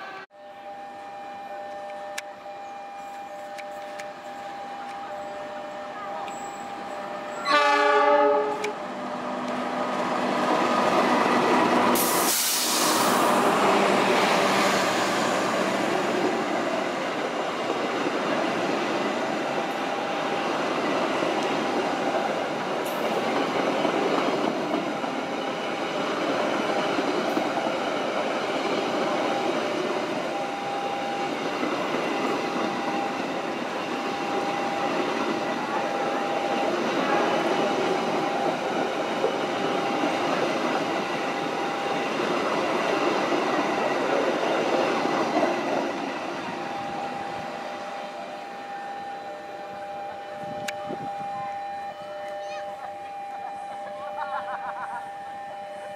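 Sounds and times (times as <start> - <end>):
diesel locomotive passing: 0.0 - 55.9
train coaches rattling past: 1.3 - 55.9.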